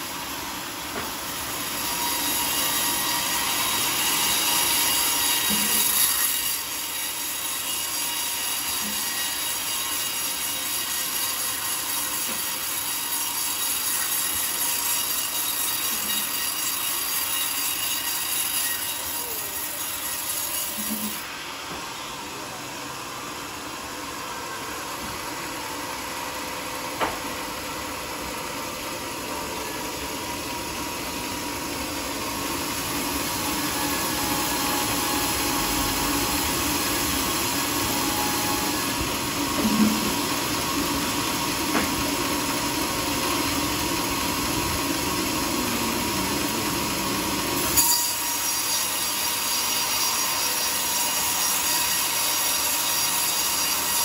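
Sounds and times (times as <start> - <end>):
band saw blade cutting log: 0.0 - 22.2, 26.8 - 54.0.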